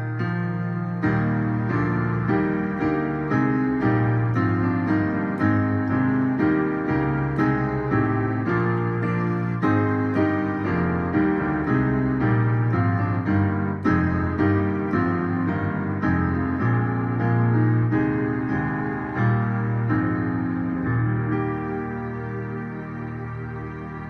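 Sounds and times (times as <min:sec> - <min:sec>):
hymn played on electronic keyboard: 0:00.0 - 0:24.0.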